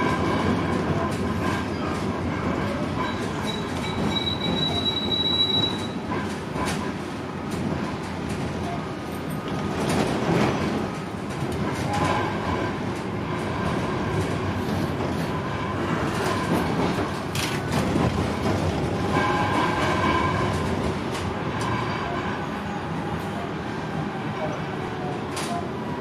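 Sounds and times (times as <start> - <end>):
tram rolling rumble: 0.0 - 26.0.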